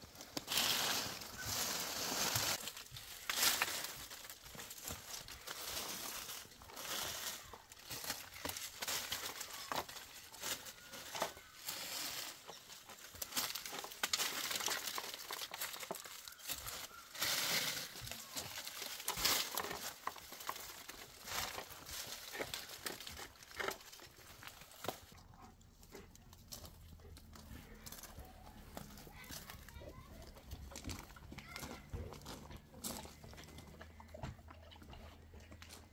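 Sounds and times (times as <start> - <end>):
dry branches and leaves rustling: 0.0 - 35.9.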